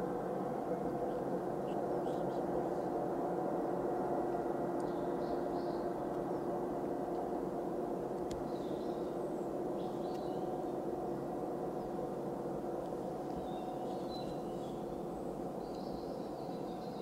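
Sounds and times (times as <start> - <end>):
distant jet engines humming: 0.0 - 17.0.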